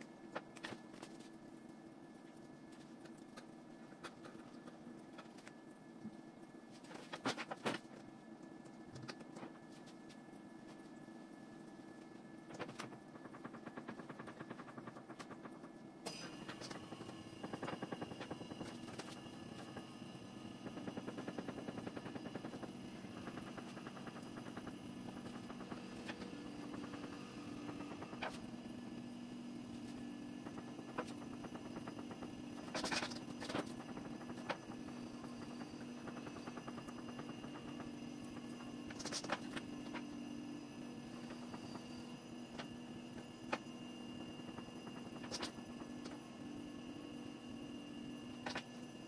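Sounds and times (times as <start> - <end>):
low electric hum: 0.0 - 49.0.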